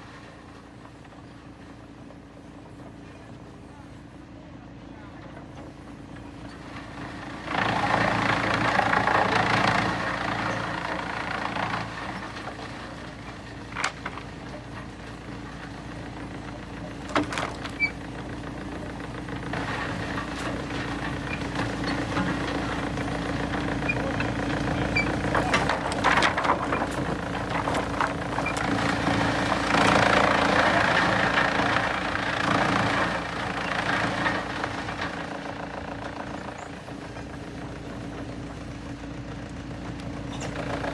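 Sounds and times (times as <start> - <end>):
heavy machinery engine running: 5.4 - 40.9.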